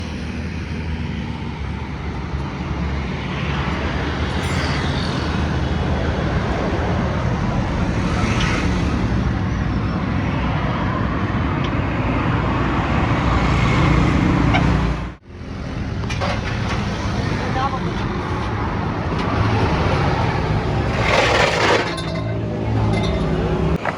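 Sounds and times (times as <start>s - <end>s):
heavy vehicle engines running: 0.0s - 23.9s
traffic noise: 0.0s - 23.9s.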